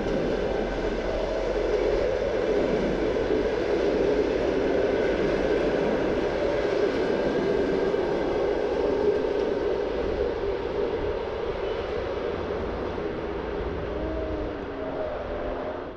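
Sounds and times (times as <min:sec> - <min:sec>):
train wheels rumbling on track: 0:00.0 - 0:15.8.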